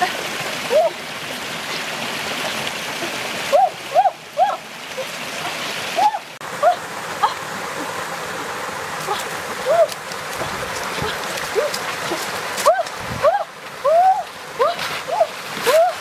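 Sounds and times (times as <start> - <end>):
rocky stream running: 0.0 - 16.0.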